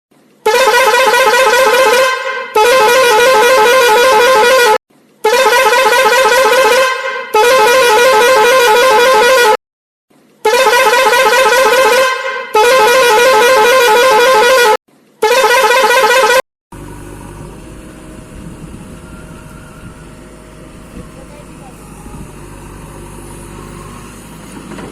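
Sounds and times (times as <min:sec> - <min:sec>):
wavering horn blasts: 0:00.4 - 0:09.6, 0:10.4 - 0:24.4.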